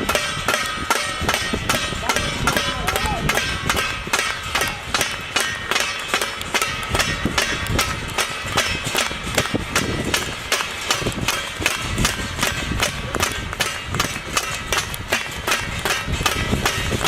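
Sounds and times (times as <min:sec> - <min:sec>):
rhythmic percussion strikes: 0:00.0 - 0:17.0.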